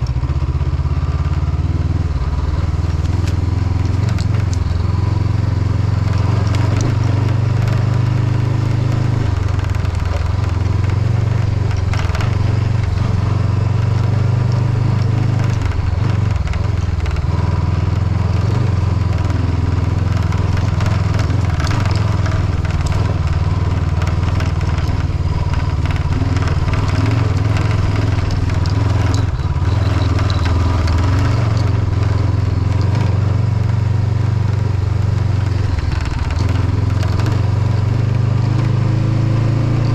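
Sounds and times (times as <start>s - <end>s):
gravel crackling under tyres: 0.0s - 39.9s
motorcycle engine running: 0.0s - 39.9s
windshield rattling: 2.1s - 5.2s, 6.0s - 33.5s, 34.8s - 38.3s.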